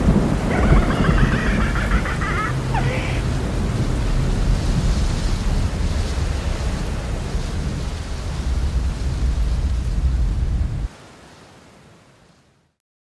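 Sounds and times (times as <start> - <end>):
rumble of thunder: 0.0 - 10.9
rain hissing: 0.0 - 12.4.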